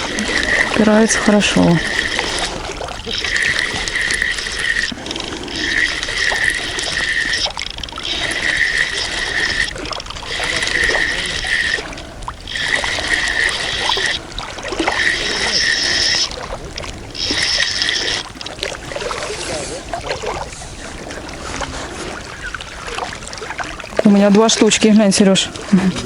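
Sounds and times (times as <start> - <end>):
fishing reel whirring: 0.0 - 26.0.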